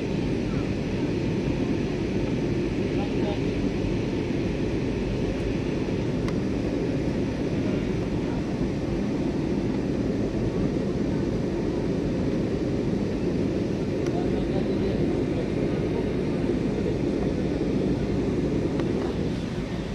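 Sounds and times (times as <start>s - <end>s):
aeroplane cabin engine rush: 0.0s - 19.9s.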